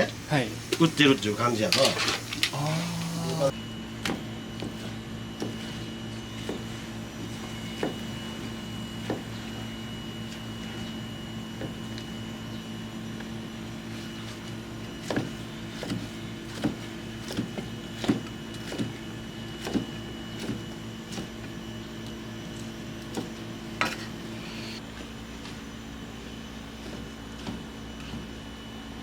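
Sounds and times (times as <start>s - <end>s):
machine hum with high whine: 0.0s - 29.0s.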